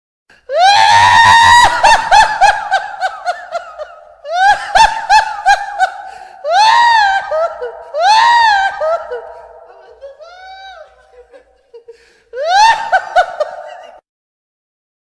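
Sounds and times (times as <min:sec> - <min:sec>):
ghostly high-pitched cackling laugh: 0:00.9 - 0:14.0.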